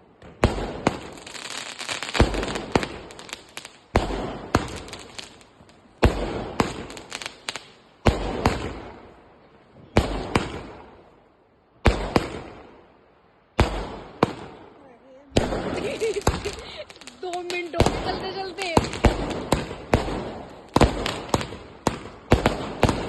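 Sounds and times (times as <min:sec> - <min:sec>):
firecracker bangs and crackle: 0:00.2 - 0:09.1, 0:09.9 - 0:11.0, 0:11.8 - 0:12.8, 0:13.6 - 0:14.6, 0:15.3 - 0:23.0.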